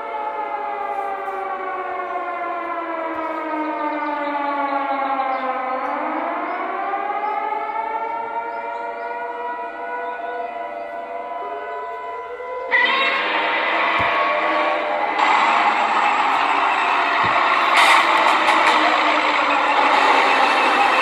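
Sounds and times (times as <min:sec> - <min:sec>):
civil defense siren: 0:00.0 - 0:21.0.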